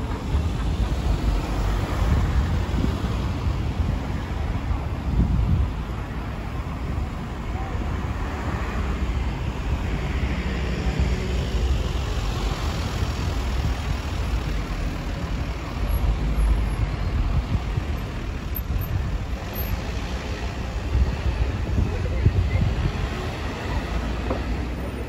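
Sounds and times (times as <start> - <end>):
cars driving past: 0.0 - 25.0
rumble of engines and tyres: 0.0 - 25.0.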